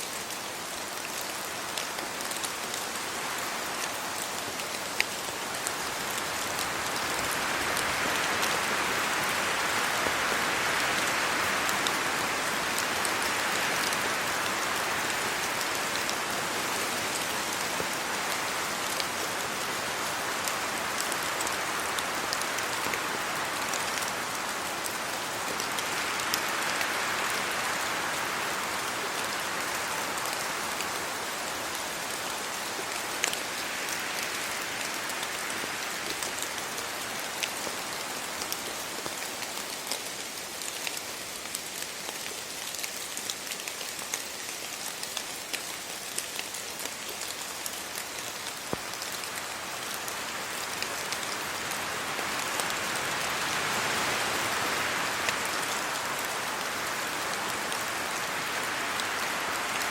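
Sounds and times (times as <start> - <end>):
rain falling on trees and road: 0.0 - 59.9
wind rushing through leaves: 0.0 - 59.9.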